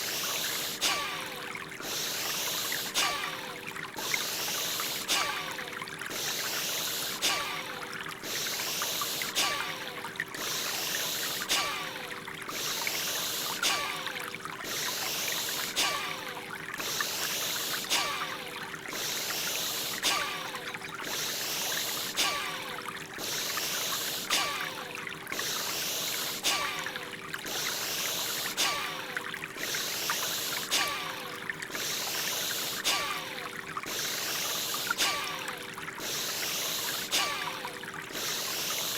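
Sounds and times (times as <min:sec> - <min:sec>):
forceful breathing in and out: 0:00.0 - 0:38.9
running water: 0:00.0 - 0:38.9.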